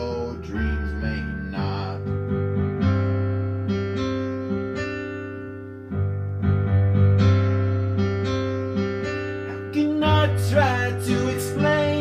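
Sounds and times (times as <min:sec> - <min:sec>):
solo piano chords: 0:00.0 - 0:12.0.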